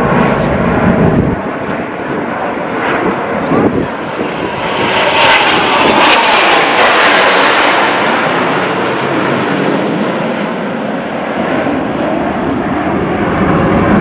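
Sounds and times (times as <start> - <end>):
jet engines roaring past: 0.0 - 14.0.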